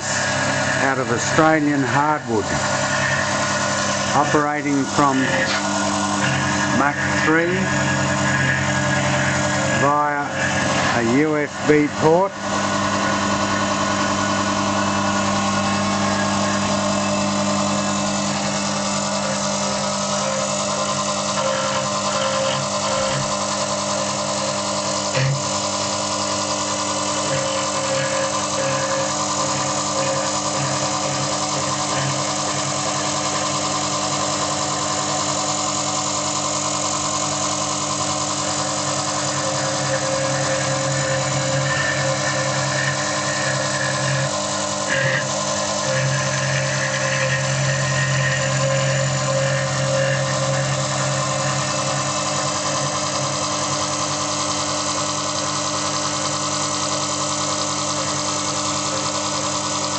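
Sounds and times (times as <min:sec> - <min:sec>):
milling machine humming: 0:00.0 - 0:59.9.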